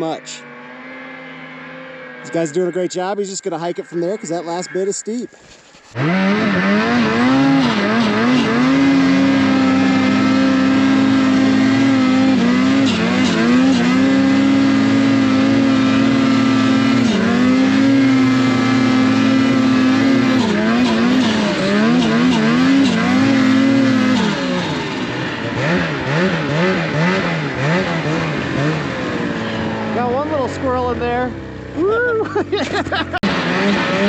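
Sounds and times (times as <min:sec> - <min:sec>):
snowmobile engine running hard: 0:00.0 - 0:34.0.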